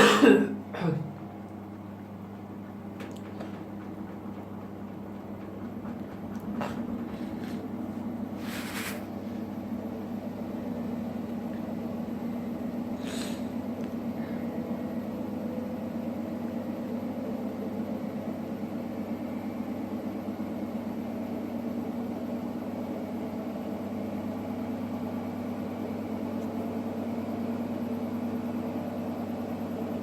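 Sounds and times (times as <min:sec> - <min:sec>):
washing machine humming: 0:00.0 - 0:30.0.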